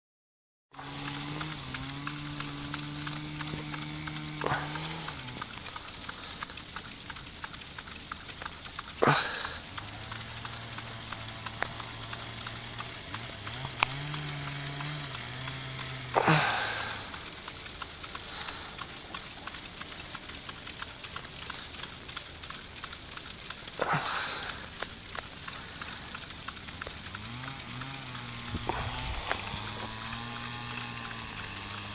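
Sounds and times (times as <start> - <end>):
water spraying hiss: 0.7 - 31.9
low droning hum: 0.8 - 31.9.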